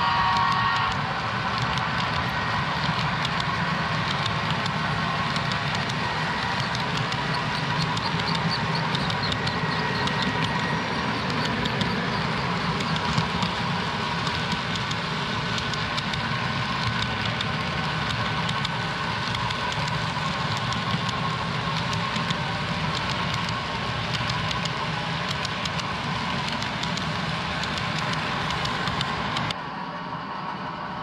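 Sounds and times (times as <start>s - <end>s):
model train cars rolling: 0.0s - 29.6s
wheels clicking over rails: 0.0s - 29.6s.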